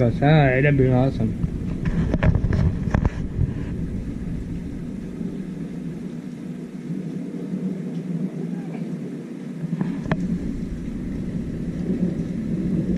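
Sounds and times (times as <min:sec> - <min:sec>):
low thunder rumble: 0:00.0 - 0:12.9
steady rain: 0:00.0 - 0:12.9.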